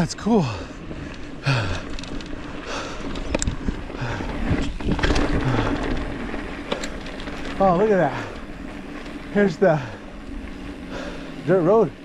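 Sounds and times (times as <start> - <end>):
bike clicks and rattles: 0.0 - 12.0
bike tyres on gravel: 0.0 - 12.0.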